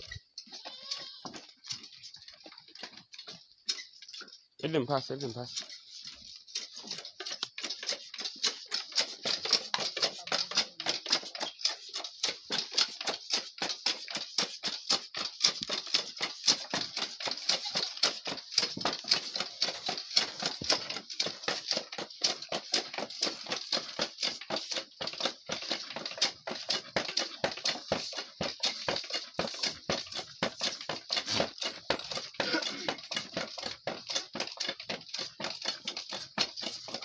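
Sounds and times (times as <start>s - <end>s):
goat hooves clattering on hard floor: 0.0s - 37.0s.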